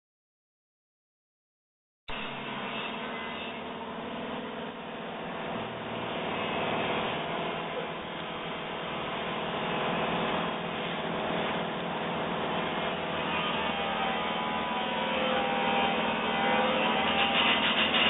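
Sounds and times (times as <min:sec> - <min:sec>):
pulsing rough rubbing: 0:02.1 - 0:18.0
ultrasonic drill humming and whining: 0:02.1 - 0:18.0.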